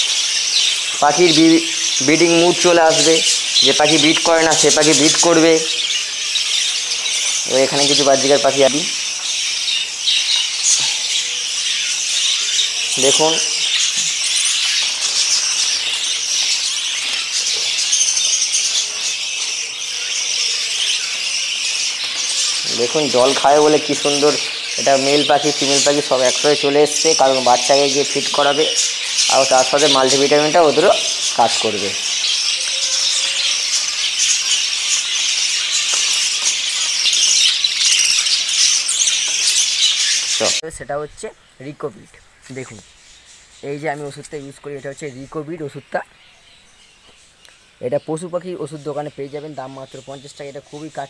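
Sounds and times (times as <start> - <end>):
budgerigars chattering and chirping: 0.0 - 51.0.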